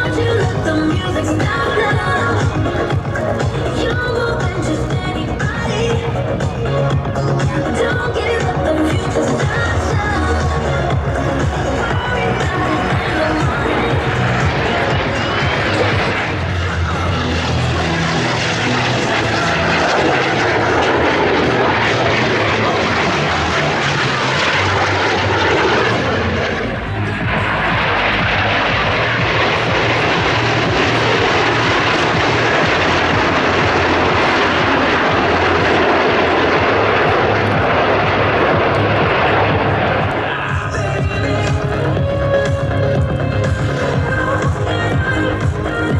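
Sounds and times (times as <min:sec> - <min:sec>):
aircraft engine in flight: 0:00.0 - 0:45.9.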